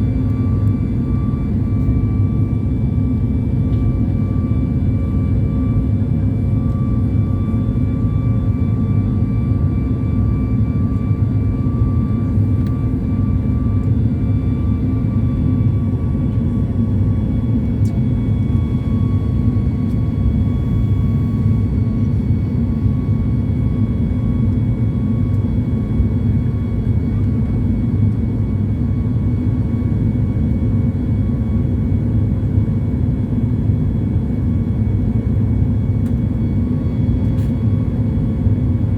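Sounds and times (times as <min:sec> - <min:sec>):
faint steady whines: 0:00.0 - 0:38.9
low engine-like drone: 0:00.0 - 0:38.9.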